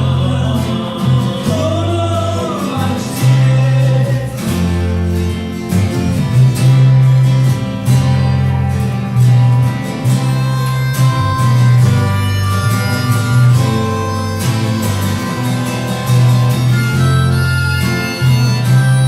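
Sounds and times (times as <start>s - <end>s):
acoustic band instrumental: 0.0s - 19.0s
bass line: 0.0s - 19.0s
guitar: 0.0s - 19.0s.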